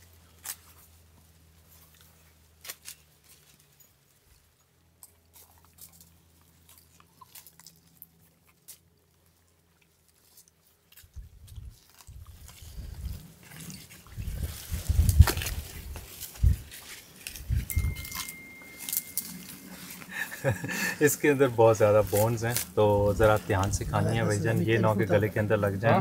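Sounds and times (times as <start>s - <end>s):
faint low hum: 0.0s - 26.0s
people eating and chewing: 0.0s - 26.0s.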